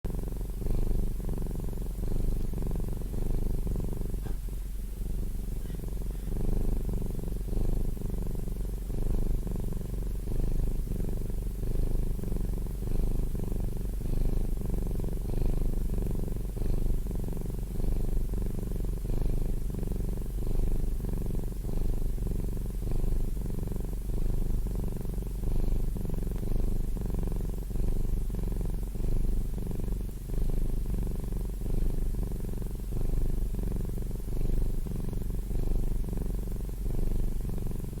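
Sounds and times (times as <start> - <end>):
cat purring: 0.1 - 38.0.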